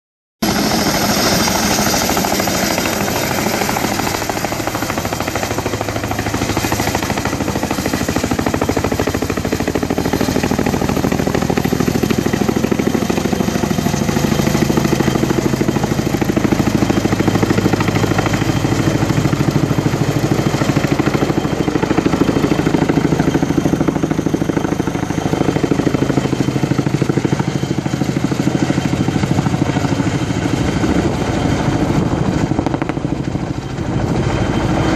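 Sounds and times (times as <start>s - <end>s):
helicopter rotors beating: 0.4s - 34.9s
helicopter turbine engines: 0.4s - 34.9s.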